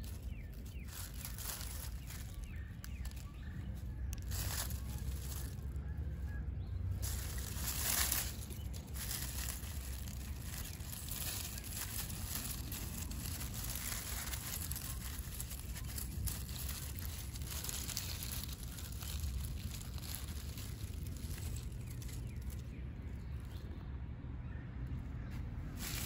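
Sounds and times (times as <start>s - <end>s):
hand rustling through dry leaves: 0.0s - 22.8s, 25.7s - 26.0s
steady low rumble: 0.0s - 26.0s.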